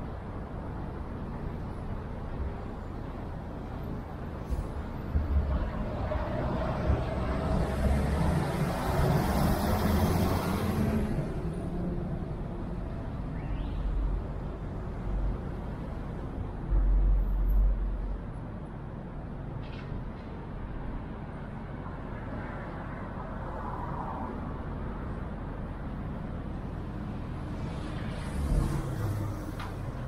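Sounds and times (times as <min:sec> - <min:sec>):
low traffic rumble: 0:00.0 - 0:30.0
passing cars hum: 0:00.0 - 0:30.0.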